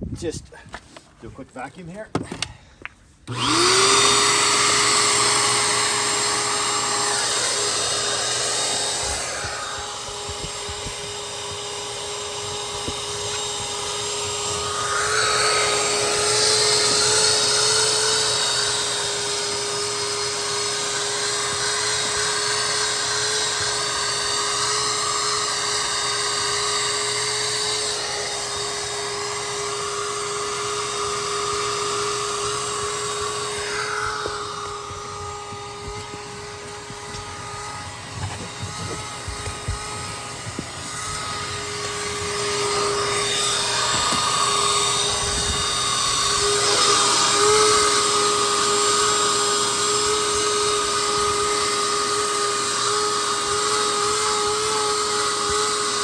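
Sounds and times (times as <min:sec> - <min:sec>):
vacuum motor whine: 0:03.2 - 0:56.0.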